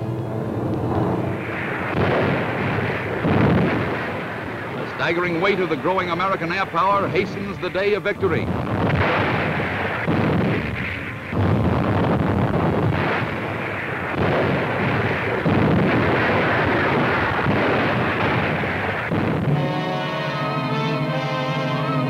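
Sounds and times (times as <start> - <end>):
aerial bombs exploding: 0.8 - 20.8.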